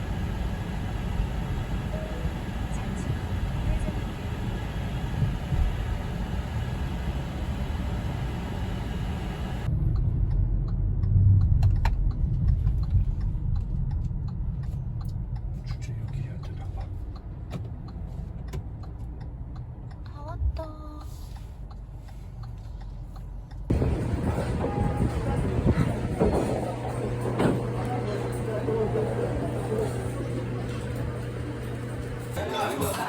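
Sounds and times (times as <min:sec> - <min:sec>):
car rumbling on road: 0:00.0 - 0:32.3.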